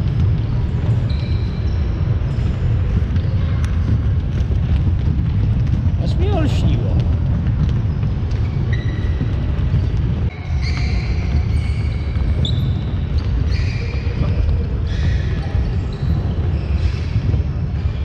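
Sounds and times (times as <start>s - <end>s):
sneaker squeaks: 0.0s - 18.0s.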